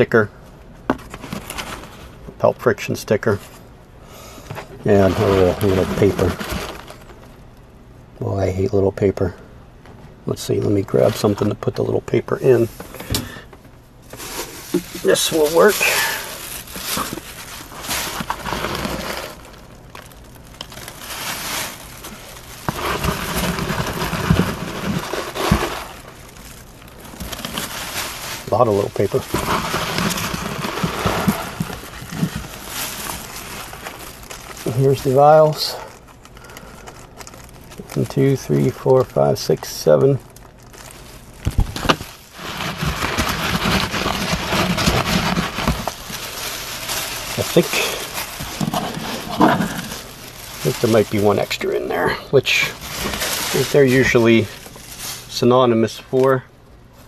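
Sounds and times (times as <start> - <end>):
shredded paper rustling: 0.9 - 2.2, 4.8 - 7.2, 14.0 - 56.4
plastic bag crinkling: 4.6 - 7.4, 12.2 - 57.0.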